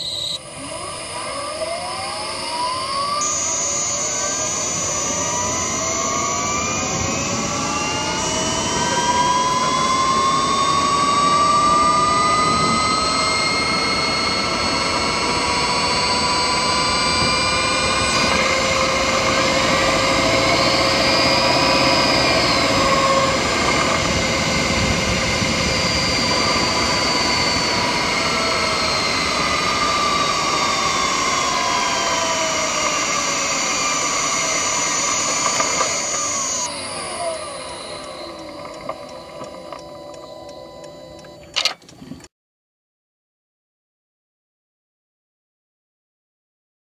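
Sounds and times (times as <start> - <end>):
steady high tone: 0.0 - 41.7
petrol engine running: 0.0 - 42.2
electric motor whine: 0.0 - 42.3.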